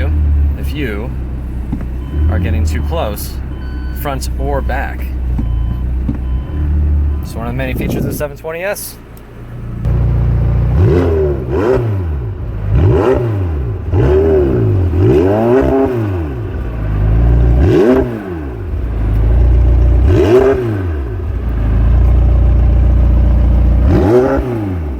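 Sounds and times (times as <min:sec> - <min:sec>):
car engine revving in blips: 0:00.0 - 0:08.3, 0:09.0 - 0:24.9.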